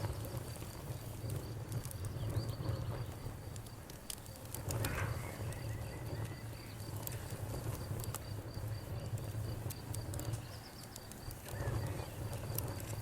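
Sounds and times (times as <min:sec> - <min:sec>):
campfire crackling and popping: 0:00.0 - 0:13.0
crickets chirping: 0:00.0 - 0:13.0.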